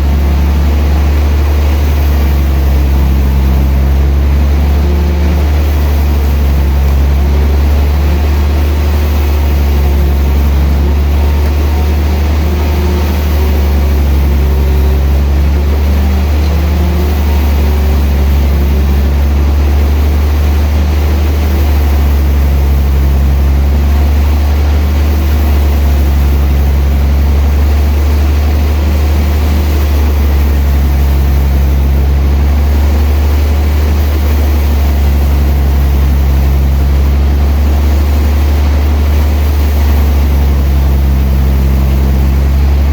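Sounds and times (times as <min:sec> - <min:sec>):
sawmill machinery humming: 0:00.0 - 0:42.9.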